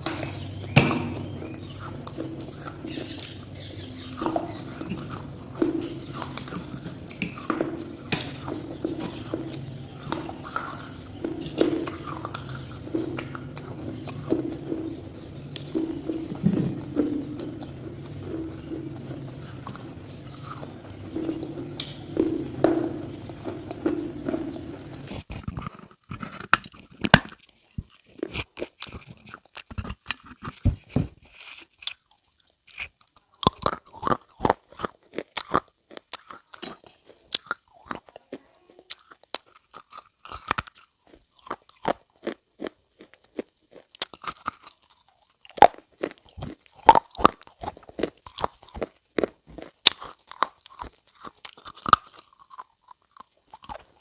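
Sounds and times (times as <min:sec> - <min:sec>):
sharp crunching: 0:00.0 - 0:38.2, 0:38.8 - 0:54.0.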